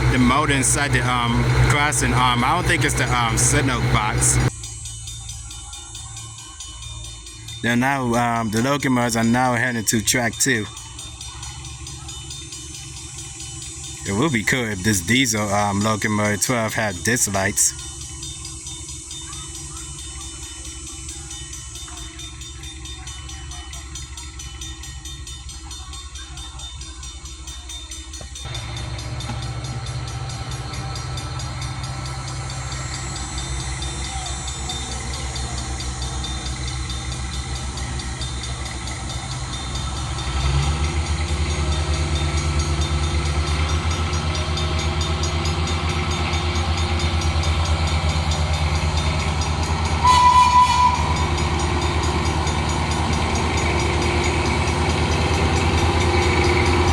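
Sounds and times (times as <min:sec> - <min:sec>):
diesel locomotive engine drone: 0:00.0 - 0:56.9
high steady tone: 0:00.0 - 0:56.9.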